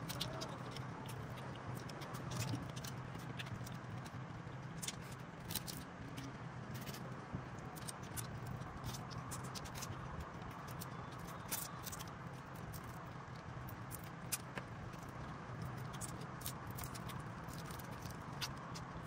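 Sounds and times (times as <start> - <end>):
crab shells cracking: 0.0 - 19.0
steady low hum: 0.0 - 19.0.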